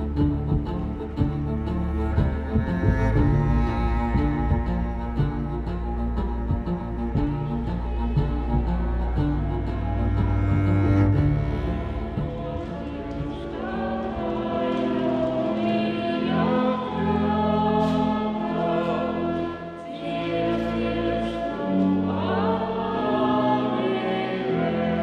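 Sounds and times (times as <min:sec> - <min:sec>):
choir singing slow chords: 0:00.0 - 0:25.0.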